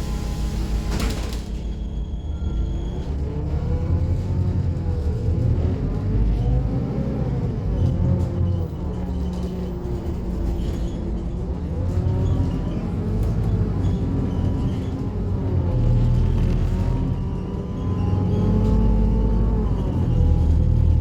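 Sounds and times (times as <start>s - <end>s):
bus diesel engine rumble: 0.0s - 21.0s.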